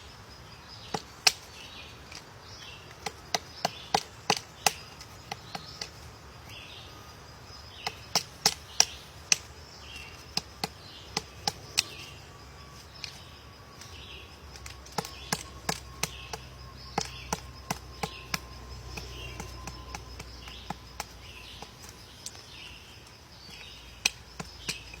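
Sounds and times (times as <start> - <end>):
woodpecker knocking on wood: 0.8 - 6.1, 7.7 - 12.1, 13.0 - 22.7, 23.4 - 25.0.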